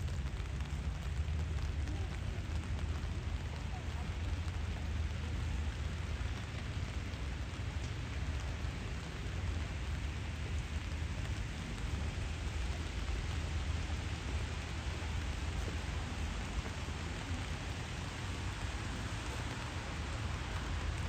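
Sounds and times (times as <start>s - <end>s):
low steady rumble: 0.0s - 21.0s
rain pattering on surfaces: 0.0s - 21.0s.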